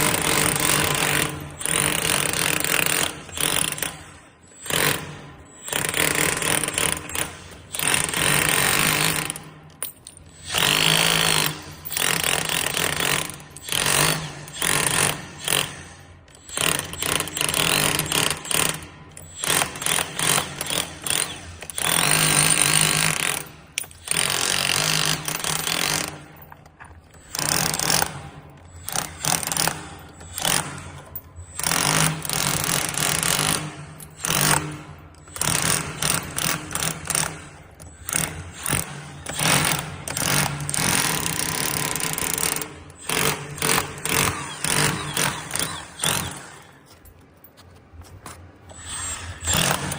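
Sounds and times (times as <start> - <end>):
power chipping hammer on tiles: 0.0 - 47.2, 48.7 - 49.9.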